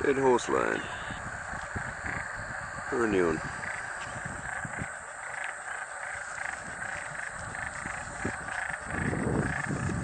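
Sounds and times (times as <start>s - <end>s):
frogs croaking: 0.0s - 10.0s.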